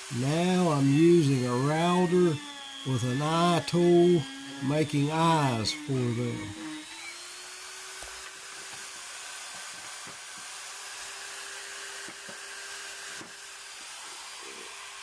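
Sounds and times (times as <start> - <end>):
router bit cutting wood: 0.0 - 15.0
router whining: 0.0 - 15.0.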